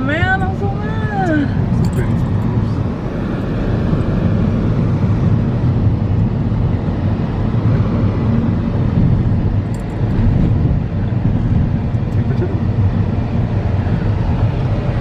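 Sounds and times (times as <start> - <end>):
vehicle interior rumble: 0.0 - 15.0.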